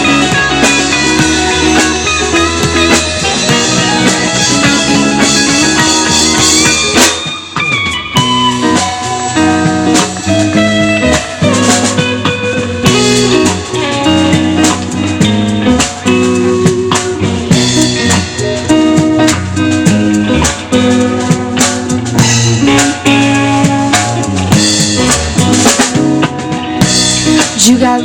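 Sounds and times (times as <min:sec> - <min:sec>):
drum kit: 0:00.0 - 0:28.0
electric guitar: 0:00.0 - 0:28.0.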